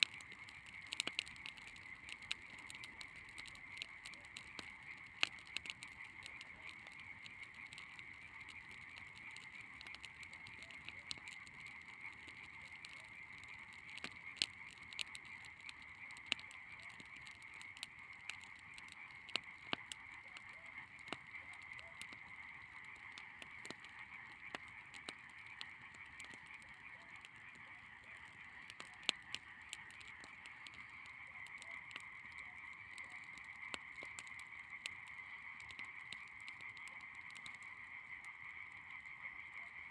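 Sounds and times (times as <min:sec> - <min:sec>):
branches crackling in a bonfire: 0:00.0 - 0:39.9
chorus of frogs trilling: 0:00.0 - 0:39.9.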